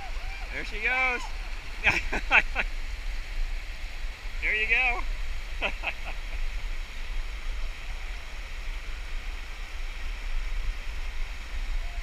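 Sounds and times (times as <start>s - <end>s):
whitewater river rushing over rocks: 0.0s - 12.0s.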